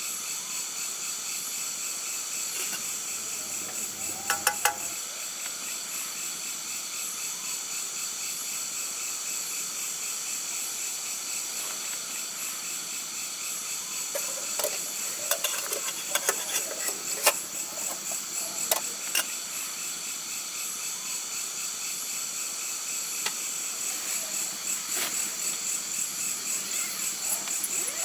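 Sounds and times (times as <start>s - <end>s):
insects chirping chorus: 0.3s - 28.0s.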